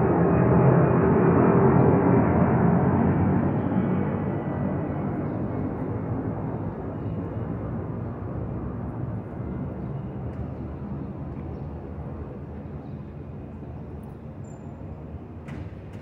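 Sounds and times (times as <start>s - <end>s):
jet airliner climbing overhead: 0.0s - 15.4s.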